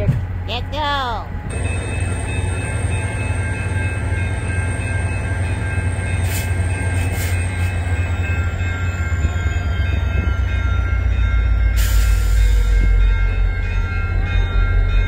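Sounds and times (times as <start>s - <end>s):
level-crossing warning bells: 0.2s - 15.0s.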